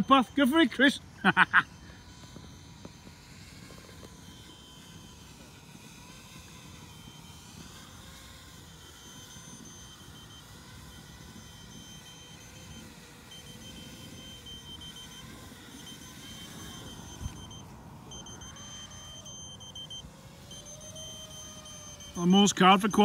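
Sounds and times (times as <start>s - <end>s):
high electronic alarm beeps: 0.0s - 23.0s
pitched motor drone: 0.0s - 23.0s.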